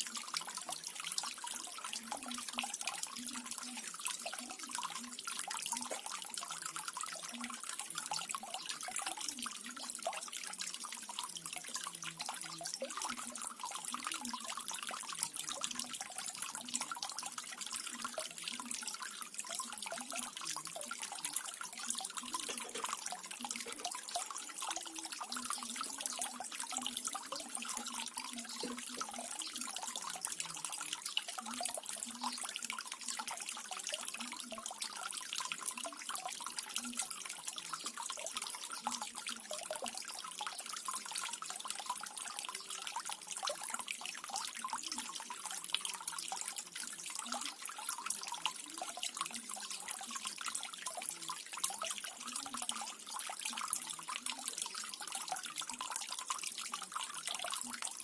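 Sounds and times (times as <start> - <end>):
fountain water splashing into pool: 0.0 - 58.0.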